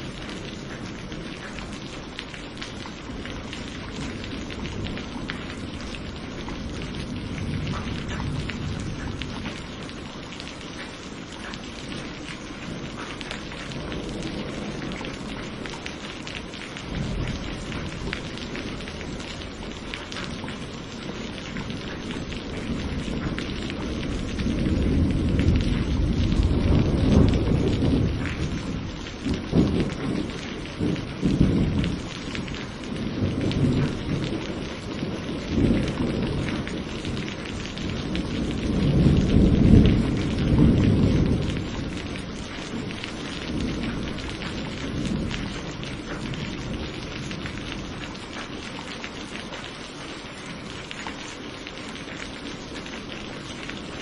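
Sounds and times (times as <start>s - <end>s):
thunder rumbling: 0.0s - 49.0s
steady rain: 0.0s - 54.0s.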